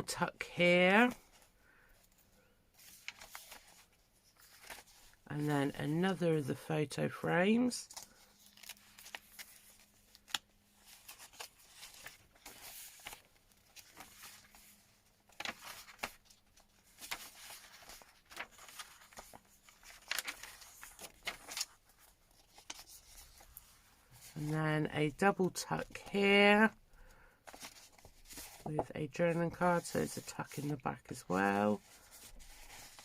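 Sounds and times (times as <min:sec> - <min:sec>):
paper pages rustling: 0:00.9 - 0:05.8, 0:07.8 - 0:24.6, 0:25.4 - 0:33.0.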